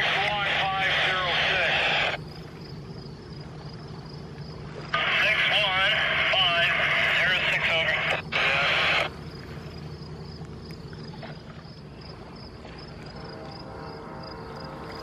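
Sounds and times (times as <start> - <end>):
insects chirping: 0.0 - 15.0
low outdoor rumble: 0.0 - 15.0.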